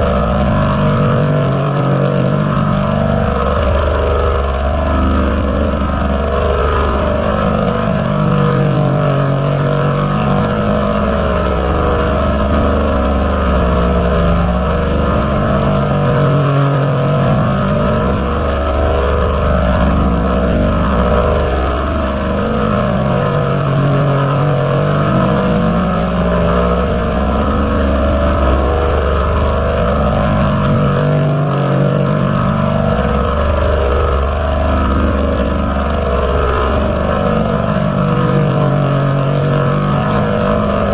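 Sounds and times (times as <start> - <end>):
distorted bass-heavy sound: 0.0 - 40.9.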